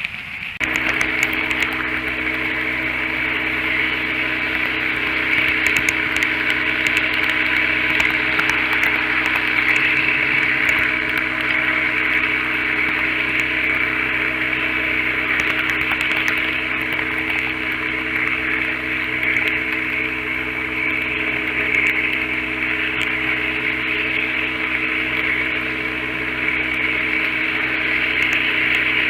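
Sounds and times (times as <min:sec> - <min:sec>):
wheel-on-rail rumble: 0:00.0 - 0:29.0
model train motor hum: 0:00.6 - 0:29.0.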